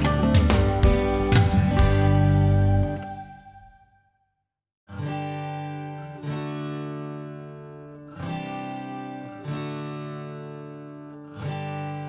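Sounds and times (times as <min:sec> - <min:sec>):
strummed acoustic guitar: 0:00.0 - 0:03.2, 0:04.9 - 0:12.0.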